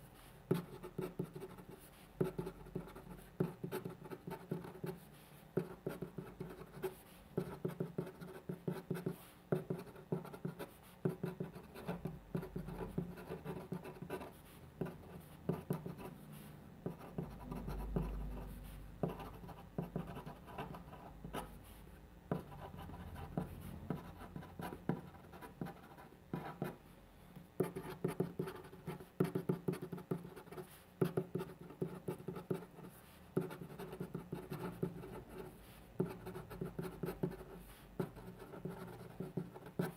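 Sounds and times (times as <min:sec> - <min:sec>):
pen scratching on paper: 0:00.5 - 0:16.2, 0:16.8 - 0:21.6, 0:22.3 - 0:26.8, 0:27.6 - 0:39.9.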